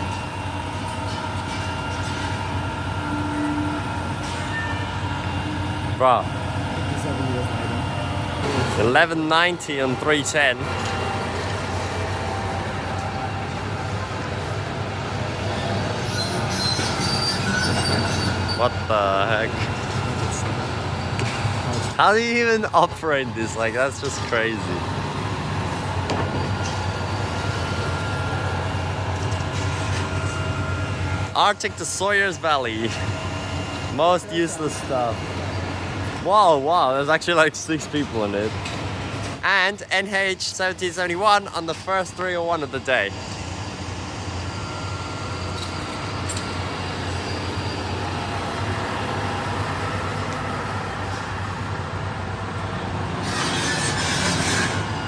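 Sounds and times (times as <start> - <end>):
large vehicle humming: 0.0 - 39.6, 41.5 - 55.0.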